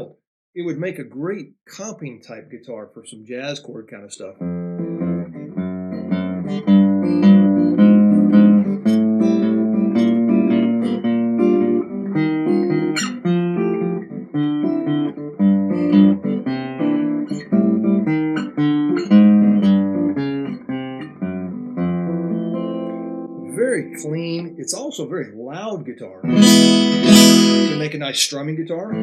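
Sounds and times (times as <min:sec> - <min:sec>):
acoustic guitar chords: 0:03.9 - 0:29.0.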